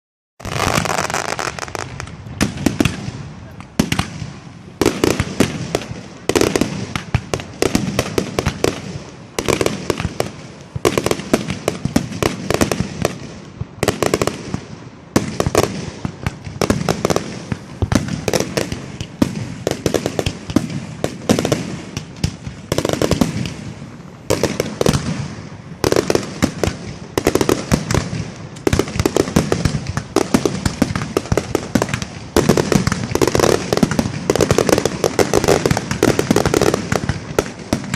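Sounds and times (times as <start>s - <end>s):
fireworks bangs and crackling: 0.4s - 37.9s.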